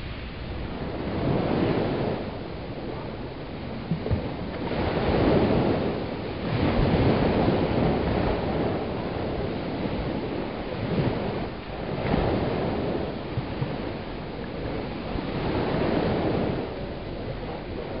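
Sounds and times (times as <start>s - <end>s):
small waves breaking on sand: 0.0s - 18.0s.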